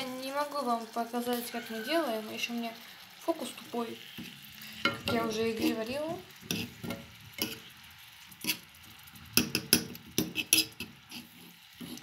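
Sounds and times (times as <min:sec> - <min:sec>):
utensil scraping frying pan: 0:01.2 - 0:12.0.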